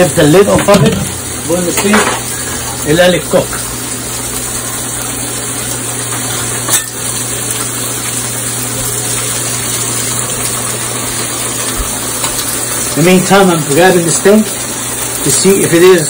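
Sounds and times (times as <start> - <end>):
water boiling and bubbling: 0.0 - 16.0.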